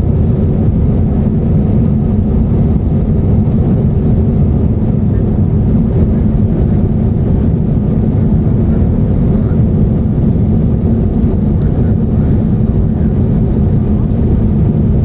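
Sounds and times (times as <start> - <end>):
airplane cabin noise in flight: 0.0 - 15.0
jet engines from inside cabin: 0.0 - 15.0.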